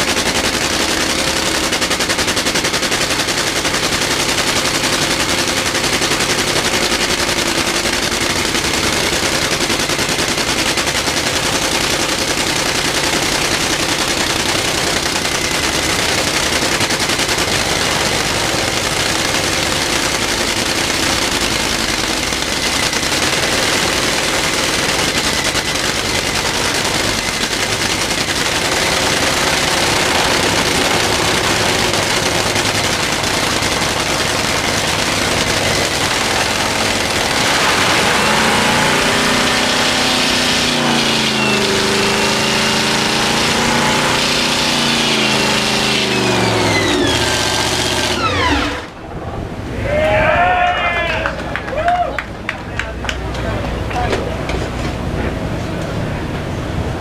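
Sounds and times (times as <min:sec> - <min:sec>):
dragster engine running loudly: 0:00.0 - 0:49.7, 0:52.2 - 0:57.0.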